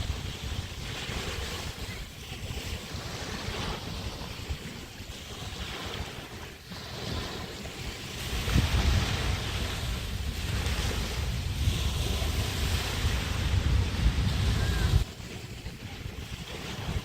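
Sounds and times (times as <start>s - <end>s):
waves washing onto a beach: 0.0s - 17.0s
wind rumbling on microphone: 0.0s - 17.0s.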